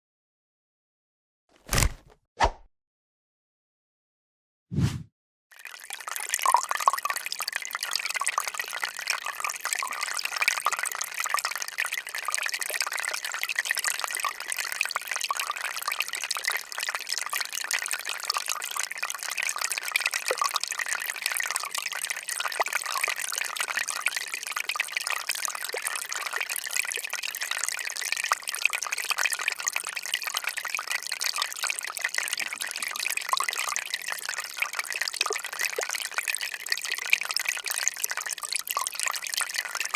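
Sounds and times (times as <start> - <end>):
water dripping and trickling: 5.6 - 39.9.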